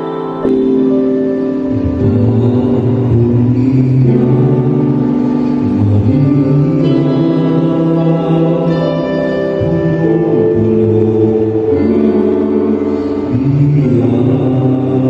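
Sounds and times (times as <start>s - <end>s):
choir sustained notes: 0.0s - 15.0s
instrumental accompaniment: 0.0s - 15.0s
man singing a slow ballad: 0.0s - 15.0s.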